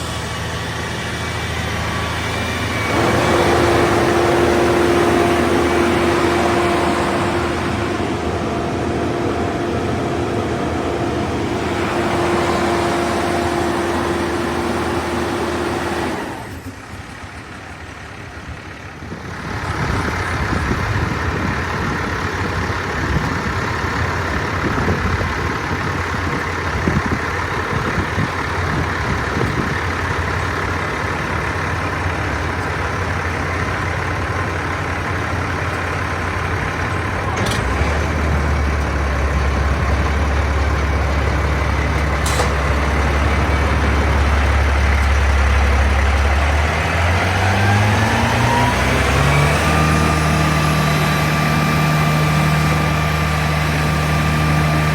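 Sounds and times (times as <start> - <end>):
diesel truck engine running: 0.0 - 54.9.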